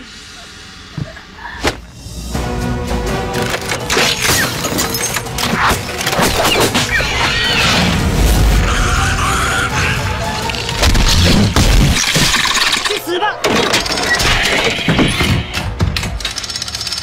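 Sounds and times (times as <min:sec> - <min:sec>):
dramatic music: 0:01.8 - 0:17.0.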